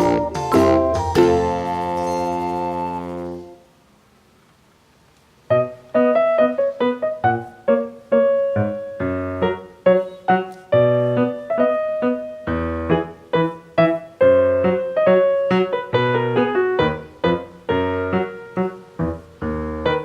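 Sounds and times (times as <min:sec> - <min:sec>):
background piano music: 0:00.0 - 0:03.7, 0:05.5 - 0:20.0.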